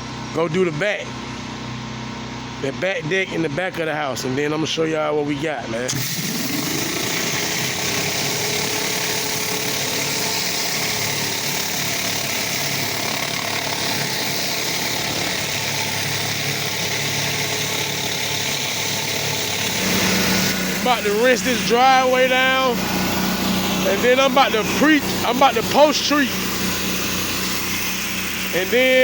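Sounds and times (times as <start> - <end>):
pressure washer engine running: 5.7 - 29.0.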